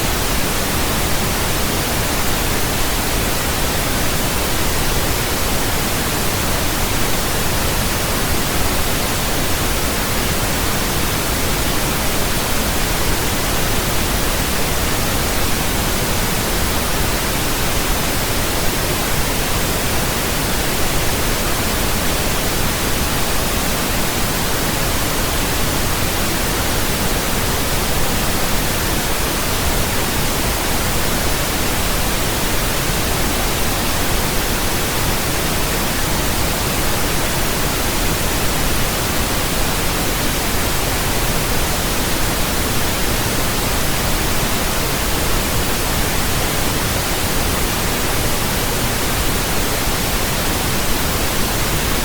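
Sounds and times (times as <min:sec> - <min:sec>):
pink noise hiss: 0:00.0 - 0:52.0.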